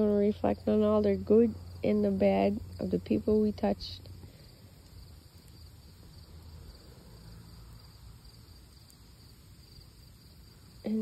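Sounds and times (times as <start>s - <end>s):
campfire crackling: 0.0s - 11.0s
crickets chirping: 0.0s - 11.0s.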